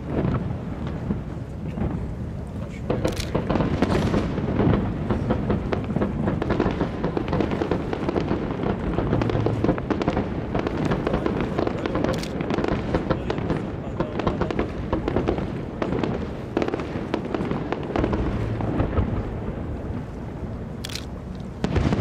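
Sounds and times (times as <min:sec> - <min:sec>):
low rumble: 0:00.0 - 0:12.4, 0:15.6 - 0:22.0
firework shells bursting: 0:02.6 - 0:22.0.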